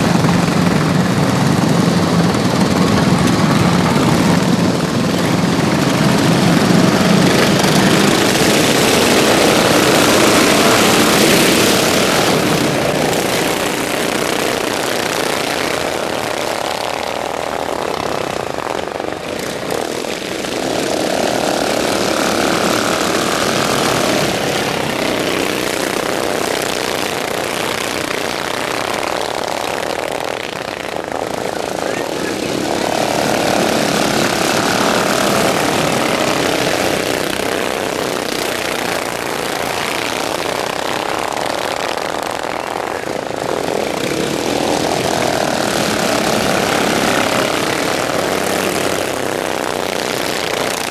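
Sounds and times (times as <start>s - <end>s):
racing lawnmowers passing: 0.0s - 50.9s.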